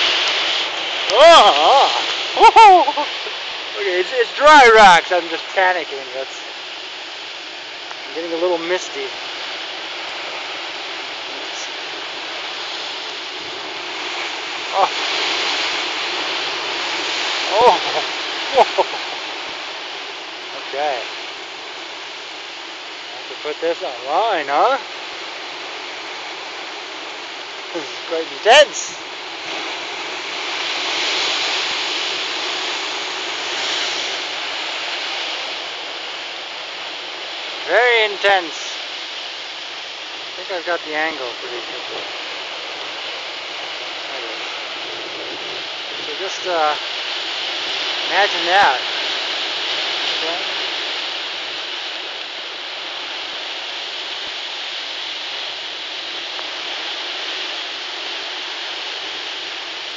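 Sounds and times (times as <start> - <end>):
waves breaking on rocks: 0.0 - 59.9.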